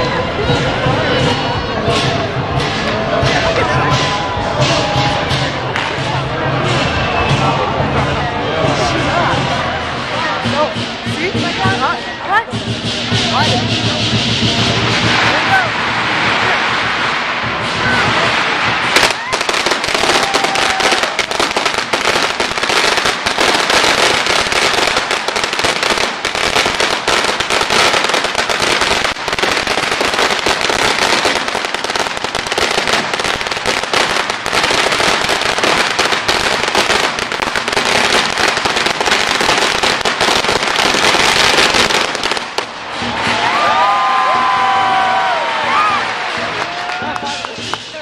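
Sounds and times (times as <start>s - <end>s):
firecrackers crackling bangs: 0.0s - 48.0s.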